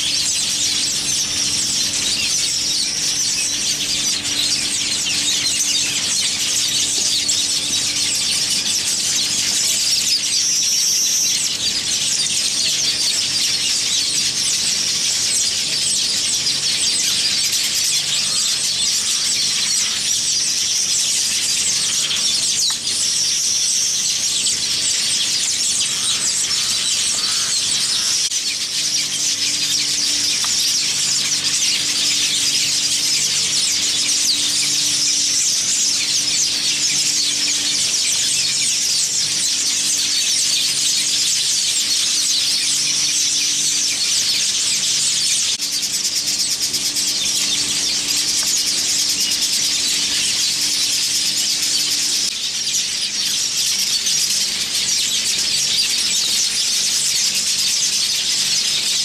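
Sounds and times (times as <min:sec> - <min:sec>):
weaver birds chattering: 0:00.0 - 0:59.0.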